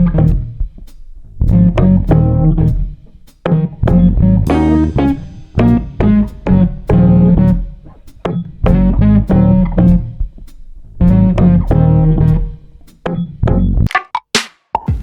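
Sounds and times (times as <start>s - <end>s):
plucked guitar with bass: 0.0s - 0.7s, 1.4s - 10.4s, 11.0s - 13.9s.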